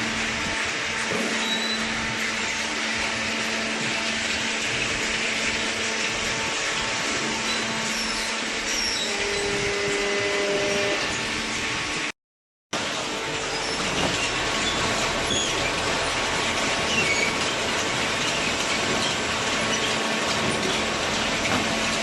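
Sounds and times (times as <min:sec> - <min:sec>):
hydraulic baler humming: 0:00.0 - 0:12.1, 0:12.8 - 0:22.0.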